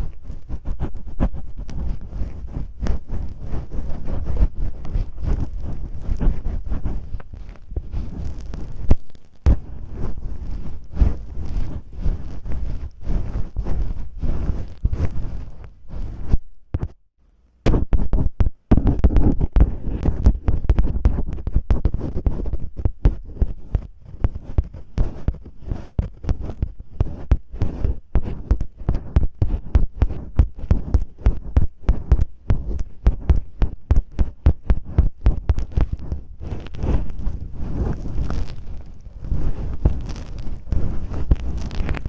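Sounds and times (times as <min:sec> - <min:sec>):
tape scratching a microphone: 0:00.0 - 0:17.0, 0:17.6 - 0:42.0.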